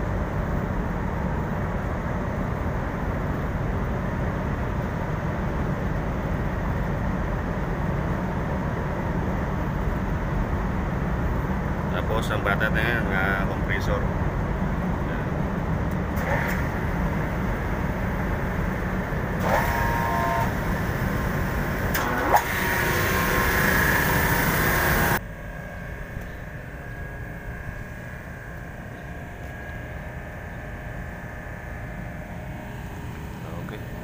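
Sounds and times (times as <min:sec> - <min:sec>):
air conditioning machinery rumbling: 0:00.0 - 0:34.0.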